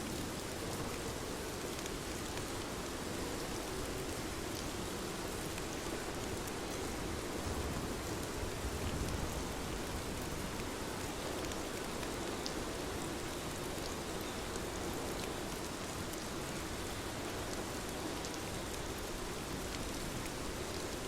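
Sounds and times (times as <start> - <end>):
raindrops ticking on a surface: 0.0 - 21.0
steady rain hiss: 0.0 - 21.0.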